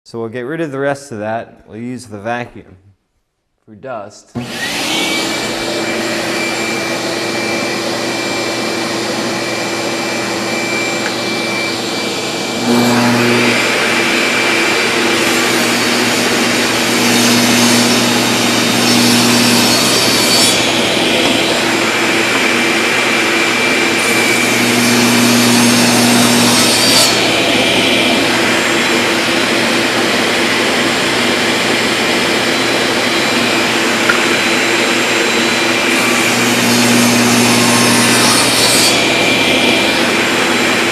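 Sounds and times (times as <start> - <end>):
shop vacuum running: 4.3 - 40.9
table saw cutting wood: 4.4 - 40.9.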